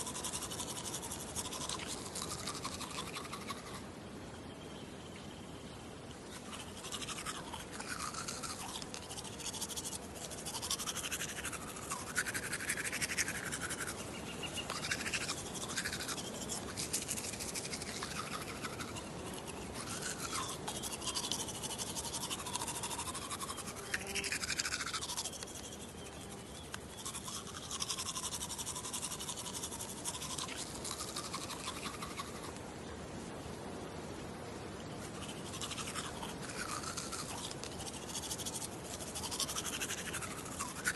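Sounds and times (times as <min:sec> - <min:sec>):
toothbrush scrubbing teeth: 0:00.0 - 0:03.8, 0:06.3 - 0:32.6, 0:35.0 - 0:40.9.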